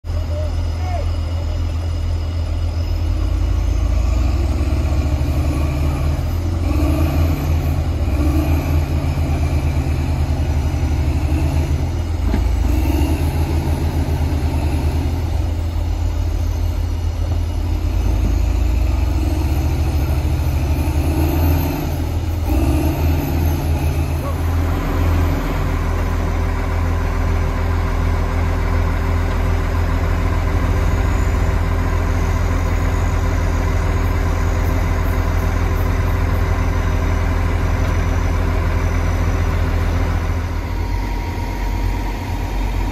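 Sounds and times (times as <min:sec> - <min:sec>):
diesel engine revving under load: 0:00.5 - 0:42.9.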